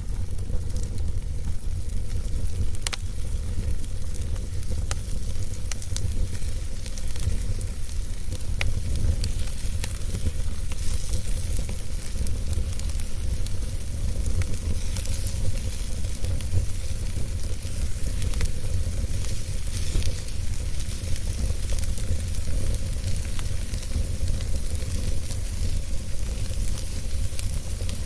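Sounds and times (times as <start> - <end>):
burning wood crackling: 0.0 - 28.0
fire rumble and hiss: 0.0 - 28.0.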